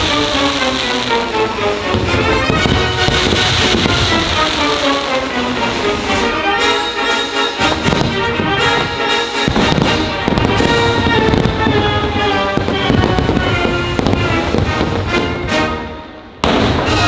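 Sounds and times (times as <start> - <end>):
aerial fireworks bursting: 0.0 - 15.6, 16.4 - 17.0
patriotic music: 0.0 - 17.0.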